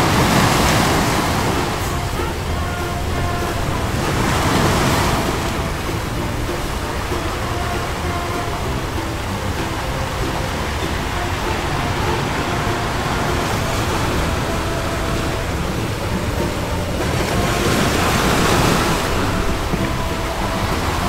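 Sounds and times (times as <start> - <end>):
sea waves washing: 0.0 - 21.0
wind: 0.0 - 21.0.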